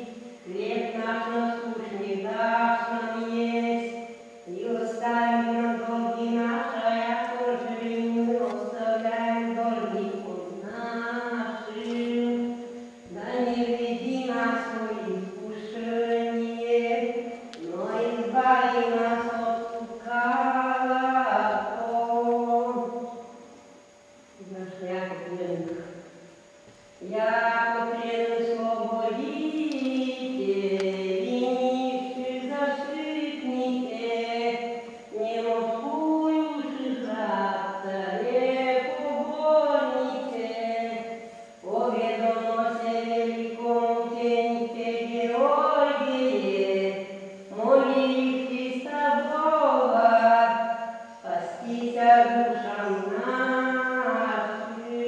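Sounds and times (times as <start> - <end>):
slow chanted singing: 0.0 - 55.0.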